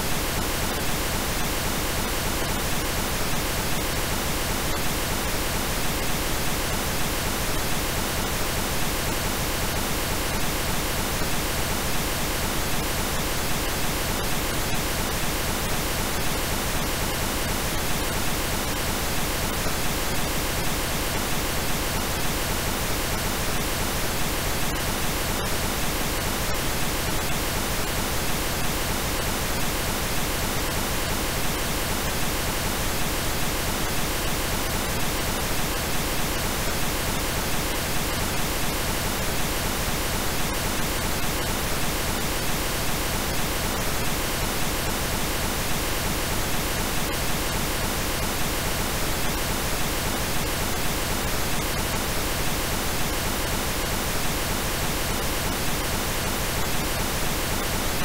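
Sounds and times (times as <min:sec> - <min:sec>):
synthesized pink noise hiss: 0:00.0 - 0:58.0.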